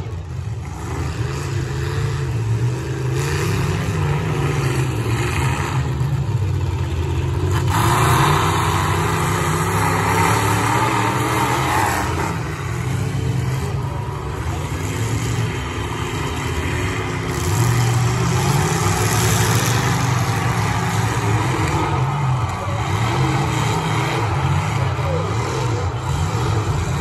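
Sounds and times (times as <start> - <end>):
truck engines revving: 0.0 - 27.0.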